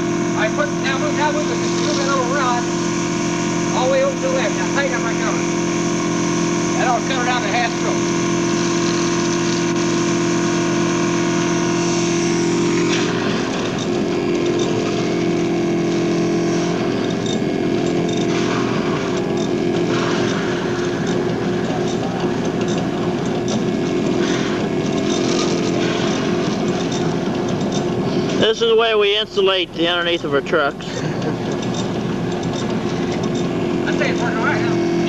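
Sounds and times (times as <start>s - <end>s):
blowing machine droning: 0.0s - 35.0s.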